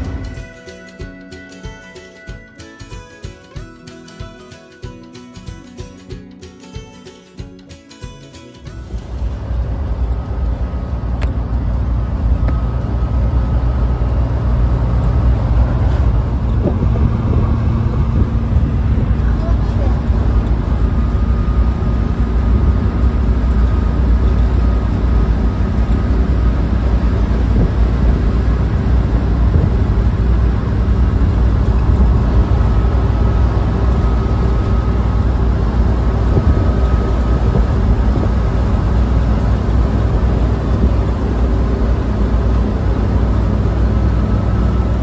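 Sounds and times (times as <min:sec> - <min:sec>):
van engine and road rumble: 0:00.0 - 0:45.0
faint whine: 0:08.7 - 0:45.0.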